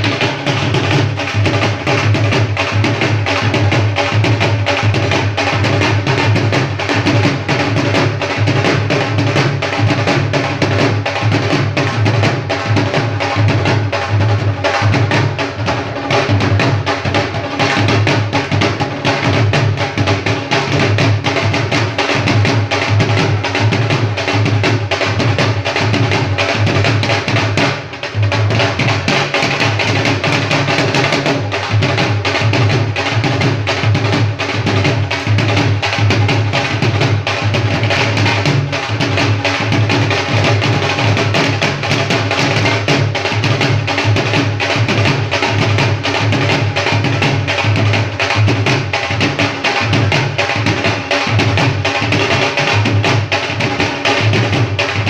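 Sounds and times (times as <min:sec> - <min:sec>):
barrel drums beating fast: 0:00.0 - 0:55.0.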